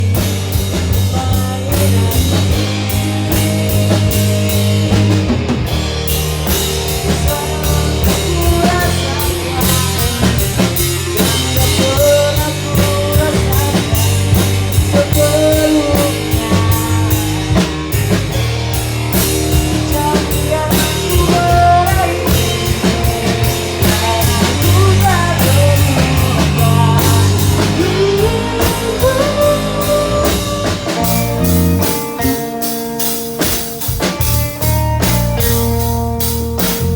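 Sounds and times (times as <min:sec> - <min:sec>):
drum kit beat: 0:00.0 - 0:36.9
live rock band: 0:00.0 - 0:36.9.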